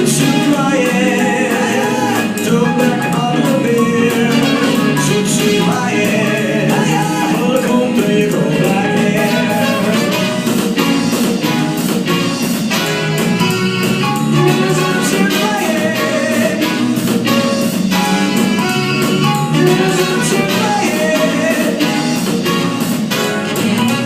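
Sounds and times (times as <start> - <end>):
upbeat music with singing: 0.0 - 11.8, 14.1 - 24.0.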